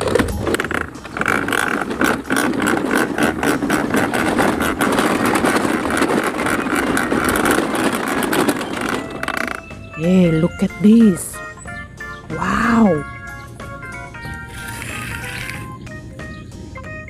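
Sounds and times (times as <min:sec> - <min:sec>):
plastic toy truck rattling: 0:00.0 - 0:10.8, 0:13.0 - 0:15.8.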